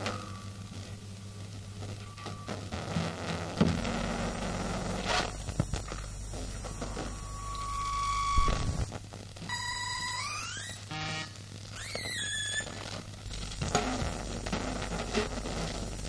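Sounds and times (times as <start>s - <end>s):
crackles and clicks: 0.0s - 16.0s
electrical hum: 0.0s - 16.0s.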